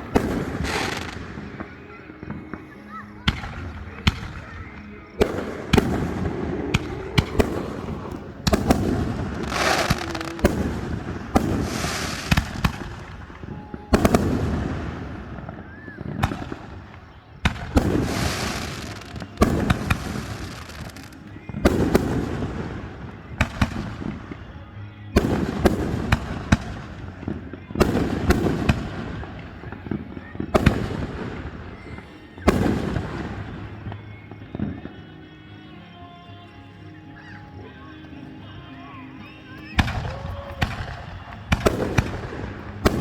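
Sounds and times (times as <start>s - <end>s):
fireworks bangs and booms: 0.0s - 35.1s, 39.2s - 43.0s
fireworks crackling and hissing: 0.0s - 35.6s, 37.1s - 43.0s.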